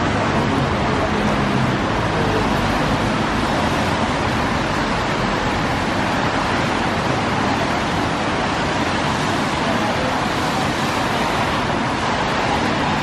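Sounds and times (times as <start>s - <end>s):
city street traffic roar: 0.0s - 13.0s.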